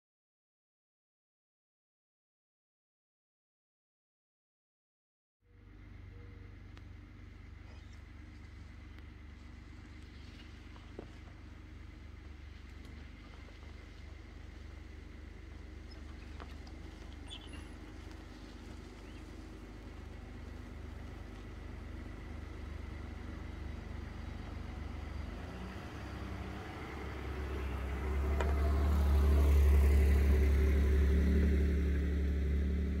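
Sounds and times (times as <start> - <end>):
vehicle engine running: 5.5 - 33.0.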